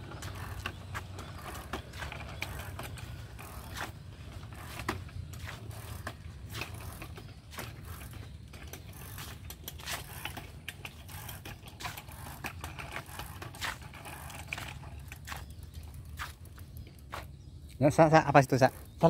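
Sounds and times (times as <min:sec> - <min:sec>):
bicycle freewheel ticking: 0:00.0 - 0:15.3.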